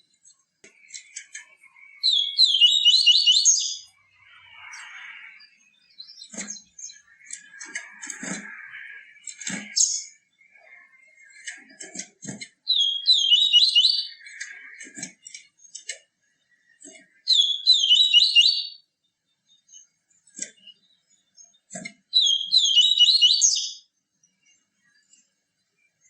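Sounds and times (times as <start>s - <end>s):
bird twittering song: 0.0s - 26.0s.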